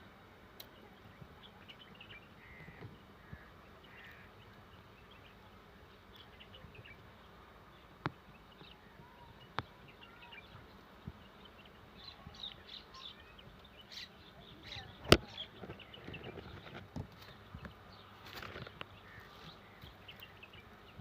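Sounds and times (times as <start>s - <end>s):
bird chirps: 0.7s - 21.0s.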